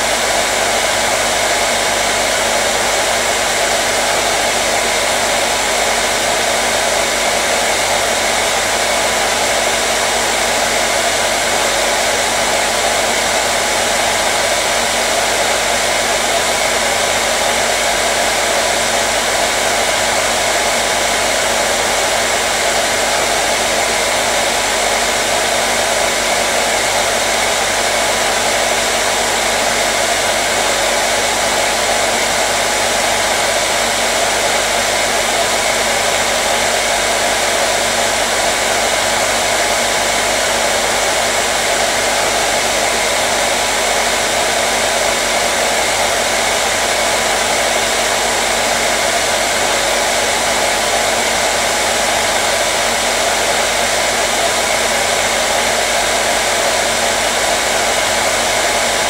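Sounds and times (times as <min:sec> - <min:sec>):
hair dryer blowing air: 0:00.0 - 0:59.0.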